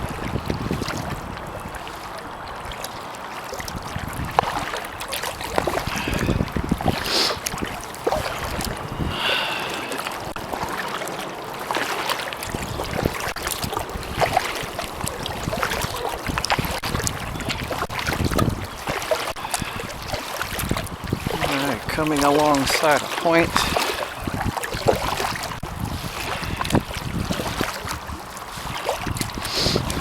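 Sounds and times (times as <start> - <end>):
paddle strokes splashing: 0.0 - 30.0
wind rumbling on microphone: 0.0 - 30.0.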